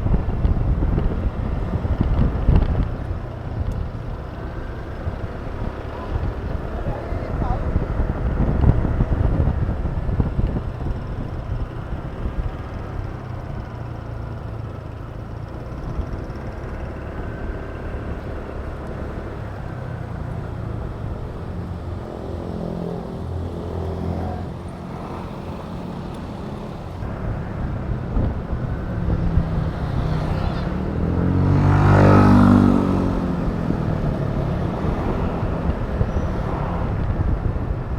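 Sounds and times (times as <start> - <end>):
road and traffic noise: 0.0 - 37.9
scooter engine running: 0.0 - 37.9.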